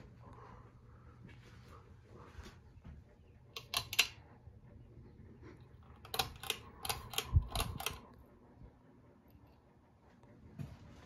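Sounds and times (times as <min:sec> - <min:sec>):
ceiling fan hum: 0:00.0 - 0:11.0.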